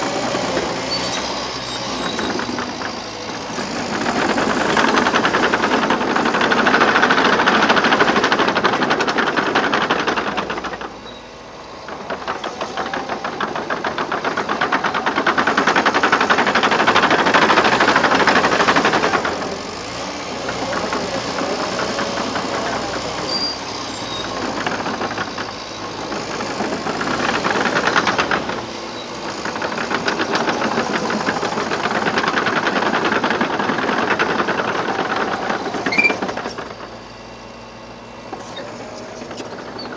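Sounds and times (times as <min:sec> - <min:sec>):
steel tracks clattering: 0:00.0 - 0:37.1, 0:38.3 - 0:39.9
diesel engine under load: 0:00.0 - 0:39.9.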